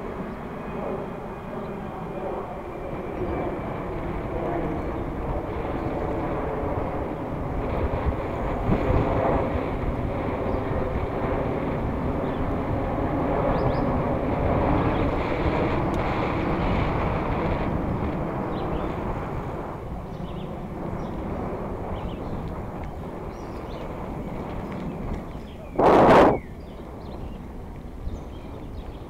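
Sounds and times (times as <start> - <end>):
wind rushing over microphone: 0.0 - 29.0
bicycle tyres rumbling on asphalt: 5.4 - 29.0.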